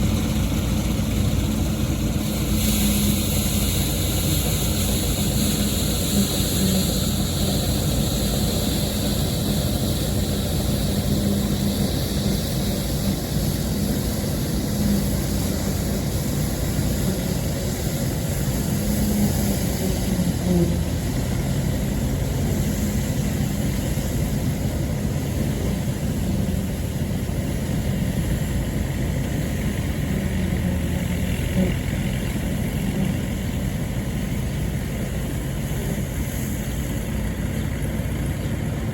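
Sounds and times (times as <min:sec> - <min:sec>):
combine harvester whirring: 0:00.0 - 0:38.9
tractor engine running: 0:00.0 - 0:38.9.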